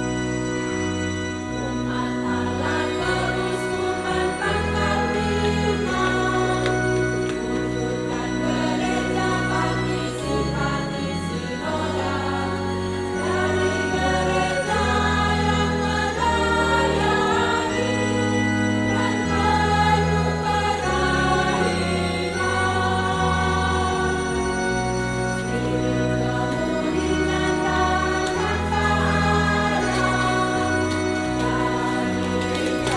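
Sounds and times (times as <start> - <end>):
keyboard bass notes: 0.0 - 32.9
choir singing in parts: 1.4 - 32.9.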